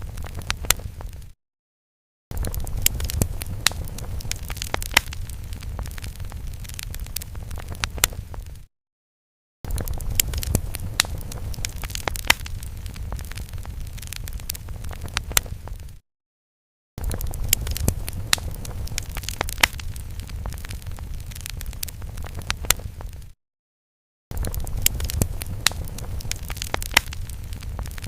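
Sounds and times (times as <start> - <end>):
fire rumbling and crackling: 0.0 - 1.4, 2.3 - 8.7, 9.7 - 16.0, 17.0 - 23.4, 24.3 - 28.0.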